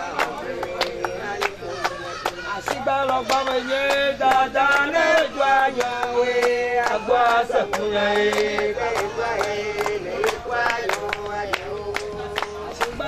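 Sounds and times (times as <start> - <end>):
group chanting a song: 0.0 - 13.0
hand clapping: 0.0 - 13.0.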